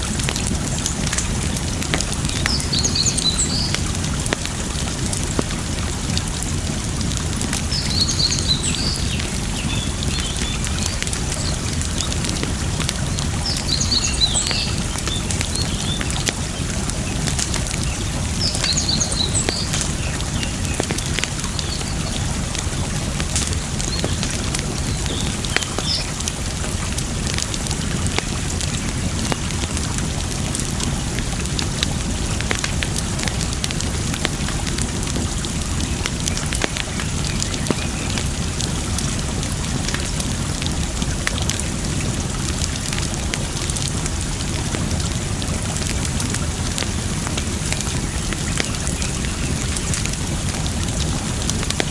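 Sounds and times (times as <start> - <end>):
campfire crackling and popping: 0.0 - 51.9
running water: 0.0 - 51.9.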